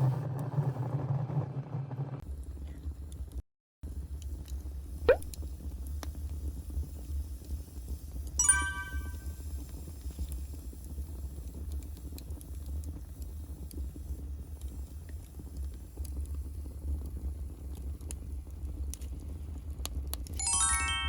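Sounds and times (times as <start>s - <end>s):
fire low rumble: 0.1s - 8.4s, 9.2s - 20.4s
wood fire crackling: 2.3s - 8.4s, 9.2s - 21.0s.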